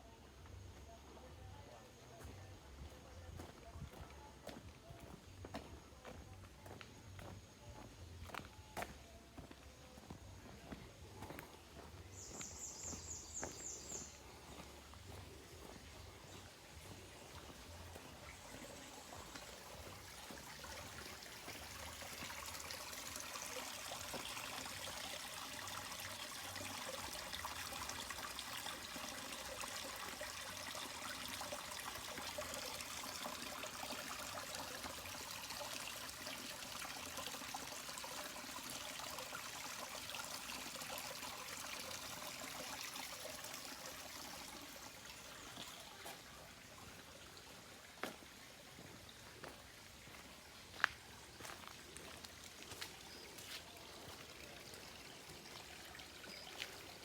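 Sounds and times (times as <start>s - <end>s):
trickling hissing water: 11.2s - 57.0s.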